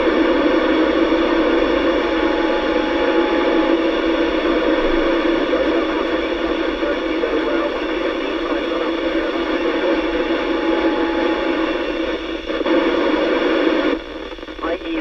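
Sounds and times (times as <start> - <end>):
faint steady tones: 0.0 - 15.0
radio static hiss: 0.0 - 15.0.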